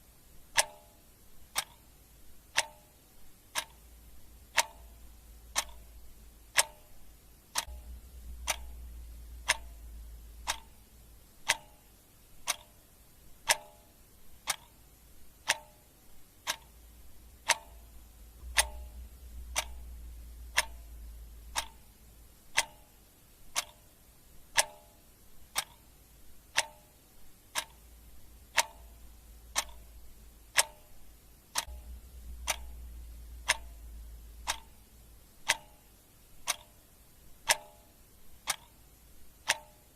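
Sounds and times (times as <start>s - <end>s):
faint low hum: 0.0s - 39.9s
clock ticking: 0.3s - 39.9s.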